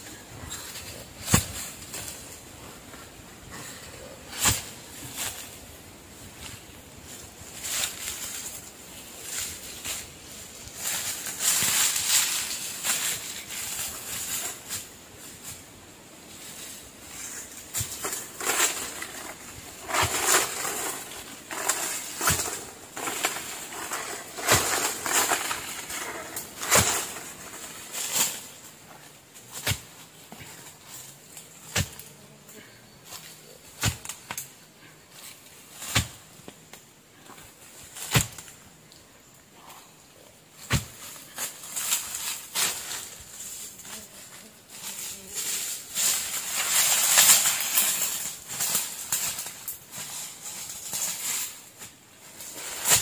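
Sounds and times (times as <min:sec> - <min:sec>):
brush and branches rustling: 0:00.0 - 0:53.0.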